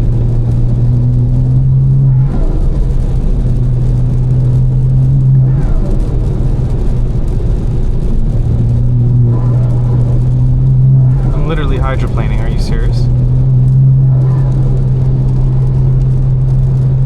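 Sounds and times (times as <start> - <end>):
car exhaust droning: 0.0 - 17.0.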